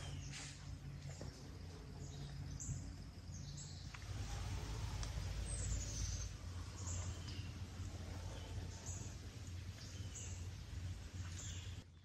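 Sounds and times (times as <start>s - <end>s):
faint bird chirps: 0.0s - 12.0s
low rumbling noise: 0.0s - 12.0s.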